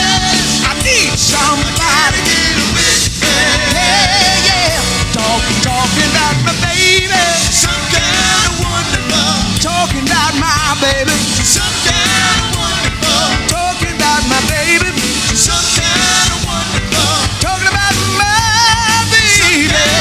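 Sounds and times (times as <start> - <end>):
person singing with vibrato: 0.0 - 20.0
rock band playing: 0.0 - 20.0.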